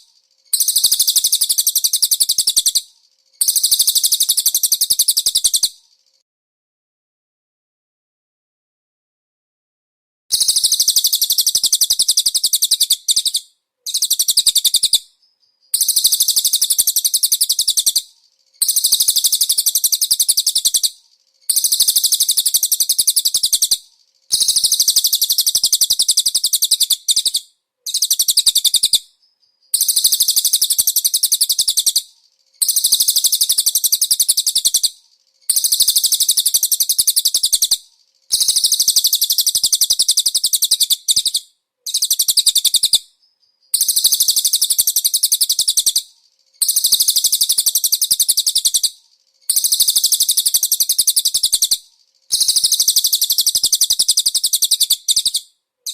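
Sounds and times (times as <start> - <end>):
recorded songbird trilling: 0.0 - 6.2, 10.3 - 55.9.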